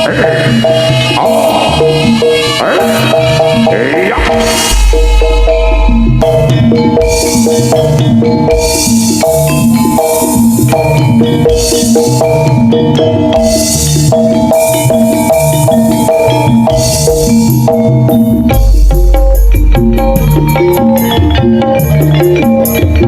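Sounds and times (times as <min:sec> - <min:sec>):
drum strokes: 0:00.0 - 0:23.0
metallophones ringing melody: 0:00.0 - 0:23.0.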